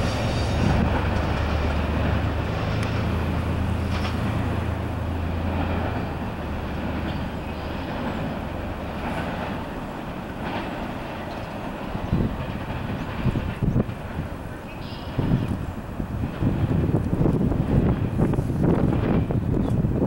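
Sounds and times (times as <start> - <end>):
low drone: 0.0 - 18.3
freight train wheels rumbling on rails: 0.0 - 20.0.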